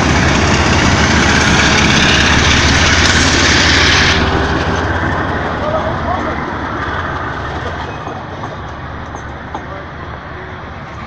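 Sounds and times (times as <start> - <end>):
diesel locomotive engine throb: 0.0 - 11.0.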